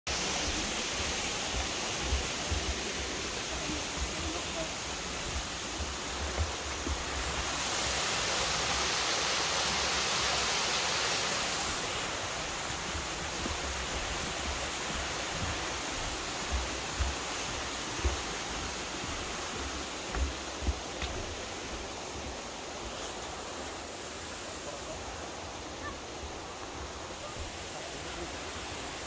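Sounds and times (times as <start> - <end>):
river and waterfall rushing: 0.1 - 29.0.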